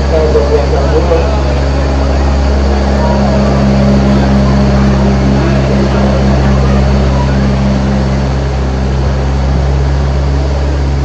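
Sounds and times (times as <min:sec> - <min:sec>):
road noise: 0:00.0 - 0:11.0
tram running with low hum: 0:00.0 - 0:11.0.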